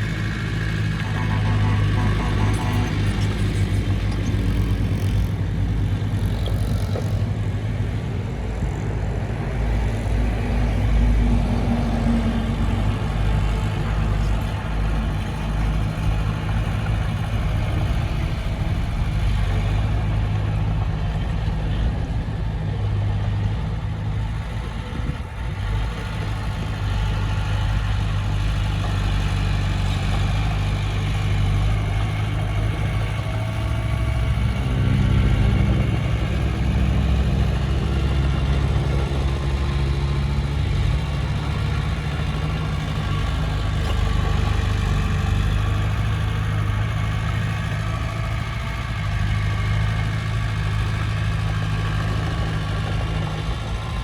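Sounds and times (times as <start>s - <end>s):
heavy machinery diesel engine: 0.0s - 54.0s.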